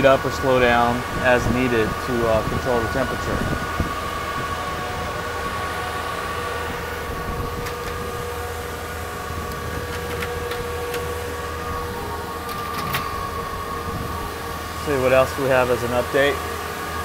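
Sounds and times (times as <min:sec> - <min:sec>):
fans and machines droning: 0:00.0 - 0:17.0.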